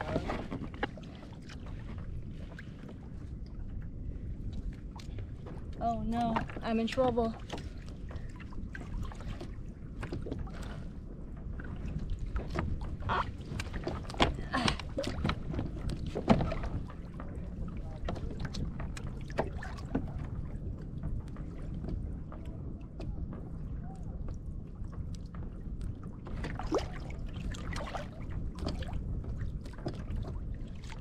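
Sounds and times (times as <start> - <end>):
water sloshing against kayak hull: 0.0 - 31.0.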